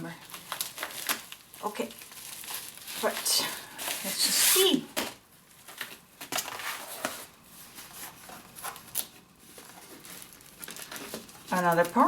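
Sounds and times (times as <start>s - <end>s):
packaging rustling and clicking: 0.2s - 4.1s, 5.0s - 12.0s.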